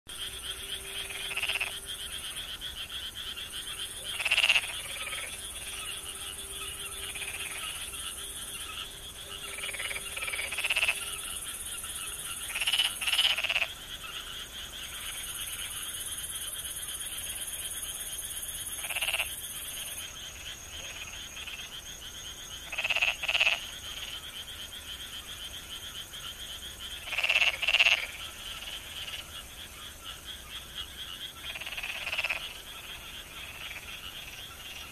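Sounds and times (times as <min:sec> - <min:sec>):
frog chorus trilling drone: 0:00.1 - 0:34.9
nearer frog croaks: 0:00.1 - 0:34.9.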